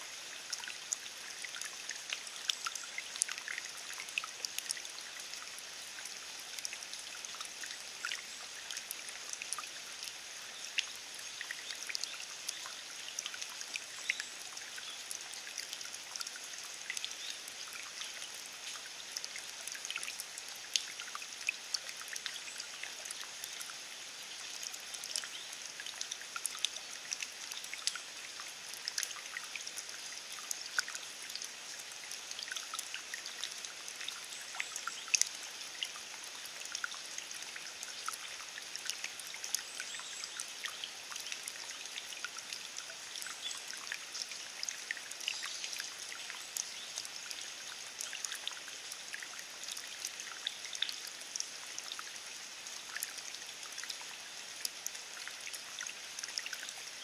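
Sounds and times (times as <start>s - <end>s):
rain pattering on wet ground: 0.4s - 52.0s.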